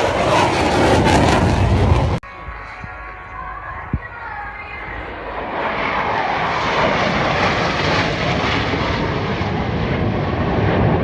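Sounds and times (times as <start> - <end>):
aircraft engine flying low: 0.0 - 11.0.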